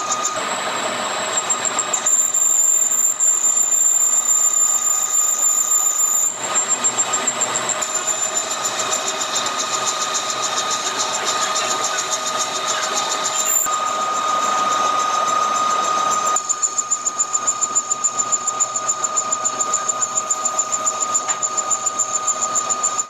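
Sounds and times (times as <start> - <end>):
metalworking machine cutting: 0.0 - 23.0.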